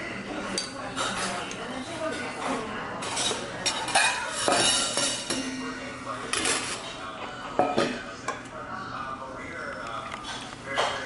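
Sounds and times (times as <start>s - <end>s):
faint background chatter: 0.0s - 11.0s
dishes and cutlery clinking: 0.3s - 8.6s, 9.7s - 11.0s.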